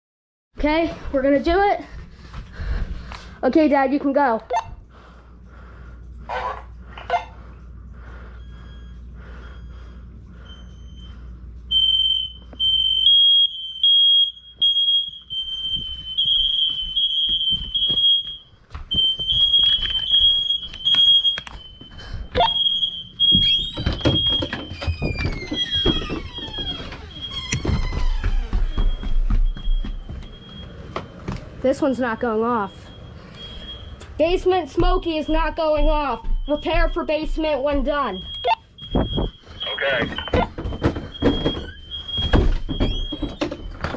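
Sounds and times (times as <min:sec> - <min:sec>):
smoke alarm beeping: 0:08.2 - 0:43.9.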